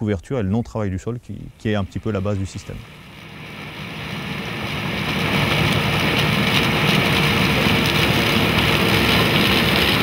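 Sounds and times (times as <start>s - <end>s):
crackling hiss of stalks: 0.0s - 10.0s
combine harvester engine drone: 1.5s - 10.0s.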